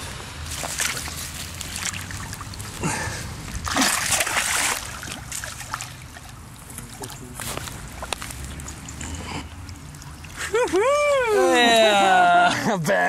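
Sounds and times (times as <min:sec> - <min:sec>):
fish thrashing and splashing: 0:00.0 - 0:11.9.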